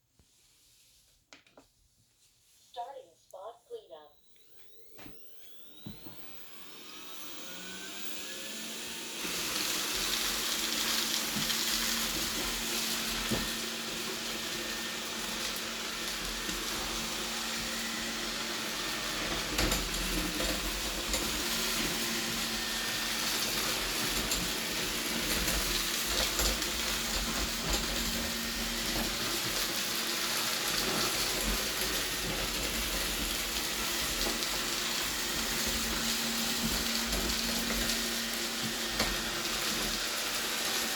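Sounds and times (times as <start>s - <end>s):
robot vacuum running: 4.0s - 40.9s
suction motor whine: 4.1s - 40.9s.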